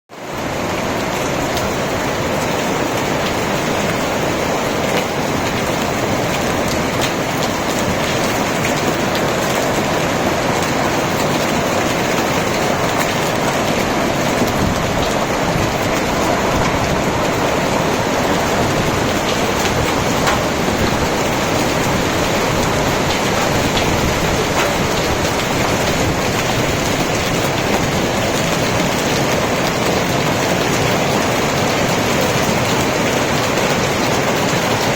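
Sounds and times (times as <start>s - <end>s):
hail and rain pelting: 0.2s - 34.9s.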